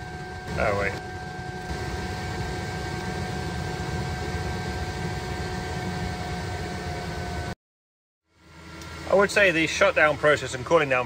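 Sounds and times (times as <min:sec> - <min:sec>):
heater blower fan whirring: 0:00.0 - 0:07.6, 0:08.3 - 0:11.0.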